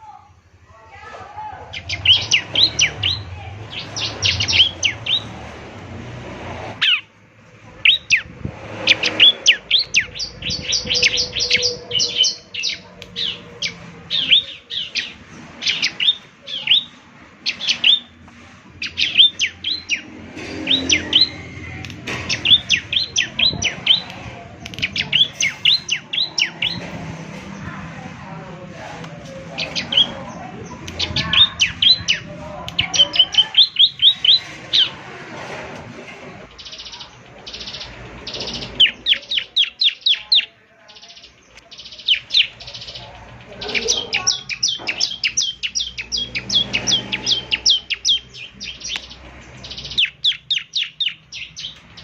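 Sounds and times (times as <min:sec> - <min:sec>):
bird high sweeping chirps: 0:01.7 - 0:06.0, 0:06.7 - 0:27.7, 0:29.3 - 0:35.1, 0:36.4 - 0:52.0.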